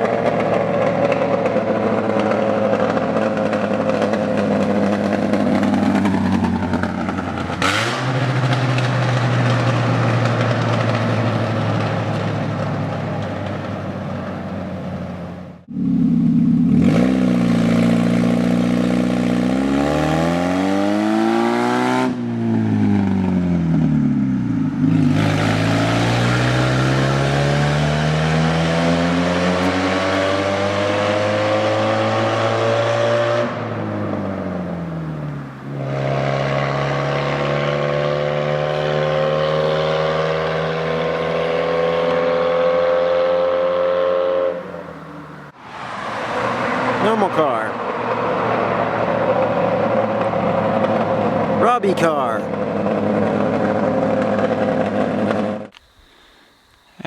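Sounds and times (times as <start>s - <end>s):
loud raspy car engine revving: 0.0s - 13.0s, 16.4s - 22.3s, 24.4s - 45.5s, 46.2s - 57.0s.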